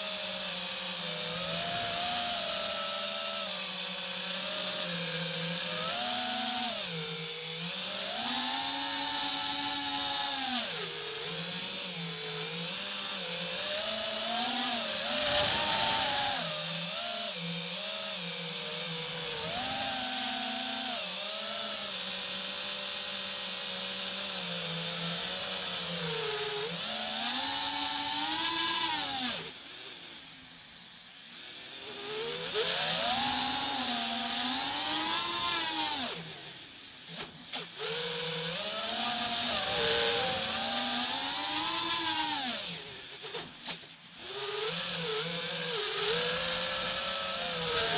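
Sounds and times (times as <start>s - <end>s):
quadcopter motors whining: 0.0s - 47.9s.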